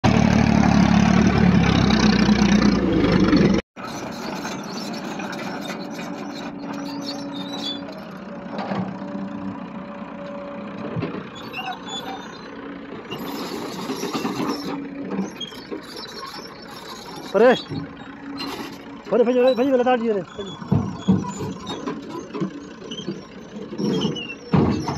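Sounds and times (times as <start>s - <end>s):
excavator diesel engine humming: 0.0s - 24.9s
loud engine noise: 0.0s - 24.9s.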